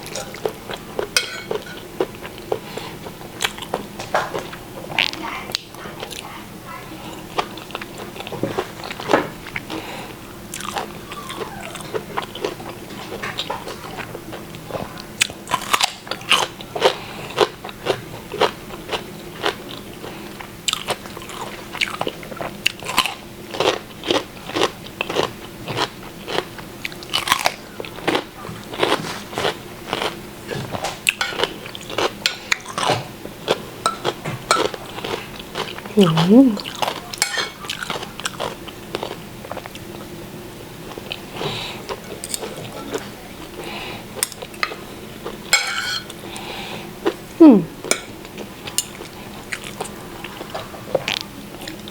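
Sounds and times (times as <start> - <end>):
person chewing crunchy food: 0.0 - 6.3, 7.1 - 51.9.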